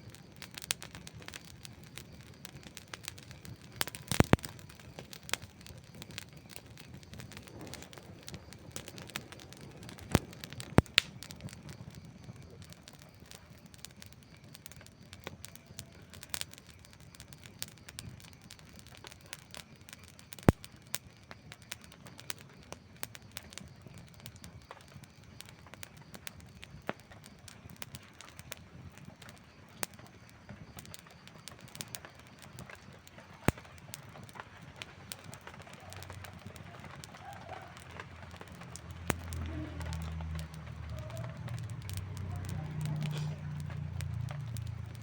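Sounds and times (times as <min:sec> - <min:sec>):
campfire crackling: 0:00.0 - 0:45.0
sharp pops of fire: 0:00.0 - 0:45.0.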